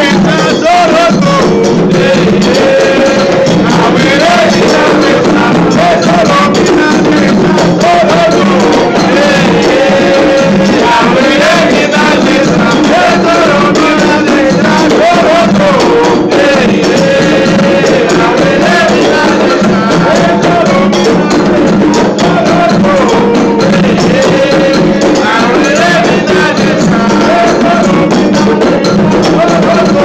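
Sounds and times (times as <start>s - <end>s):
hand percussion and drums: 0.0s - 30.0s
ritual chant singing: 0.0s - 30.0s.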